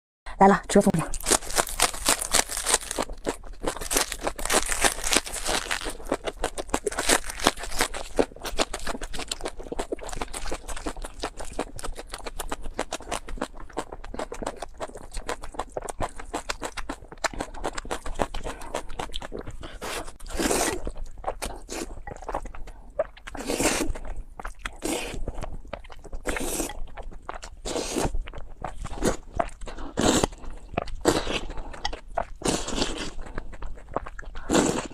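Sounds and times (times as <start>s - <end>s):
crunching of crisp food: 1.0s - 34.9s.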